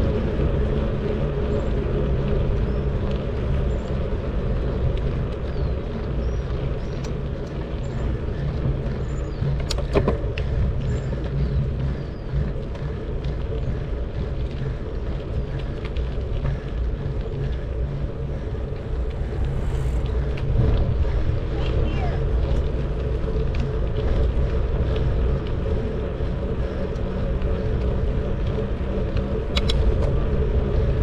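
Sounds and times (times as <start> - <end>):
wind and tyre rumble: 0.0 - 31.0.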